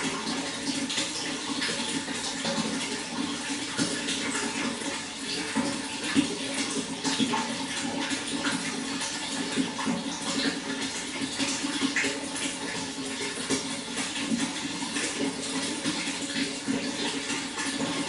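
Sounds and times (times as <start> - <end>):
running water pouring and splashing: 0.0 - 18.0.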